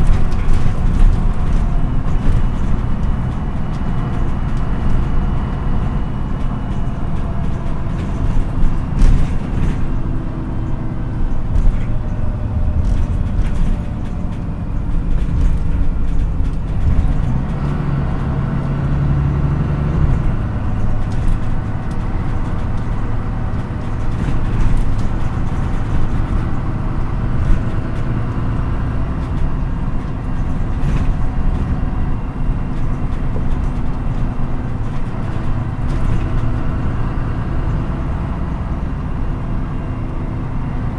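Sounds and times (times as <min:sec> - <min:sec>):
interior rattles: 0:00.0 - 0:38.4
bus engine running: 0:00.0 - 0:40.9.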